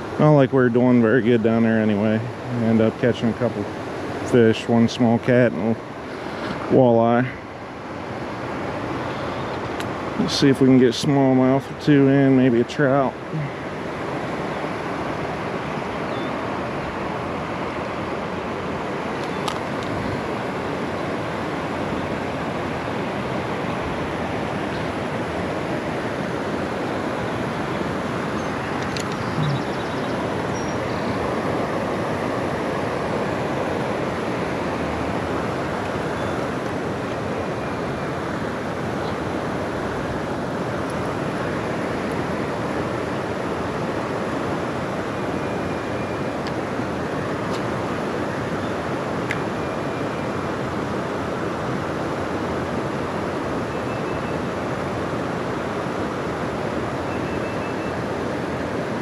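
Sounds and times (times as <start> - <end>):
creek water flowing: 0.0 - 59.0.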